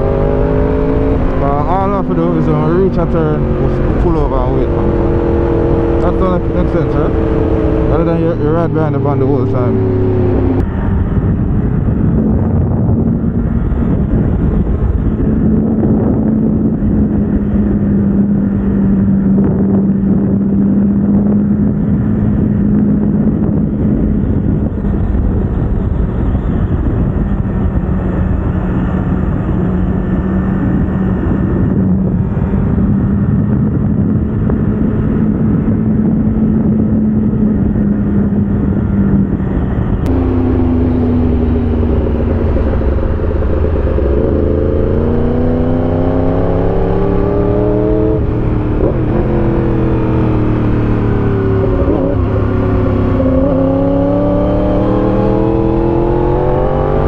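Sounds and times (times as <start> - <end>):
motorcycle engine running: 0.0 - 56.6
wind rush: 0.0 - 57.0.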